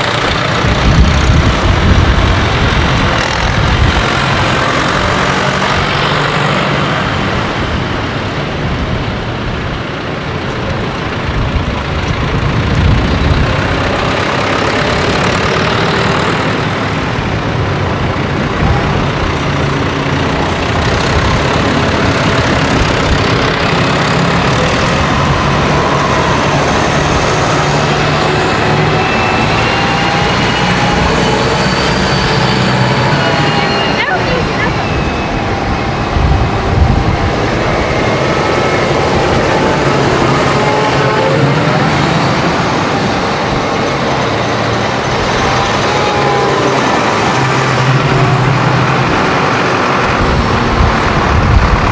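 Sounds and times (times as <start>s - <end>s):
tractor diesel engines rumbling: 0.0s - 51.9s.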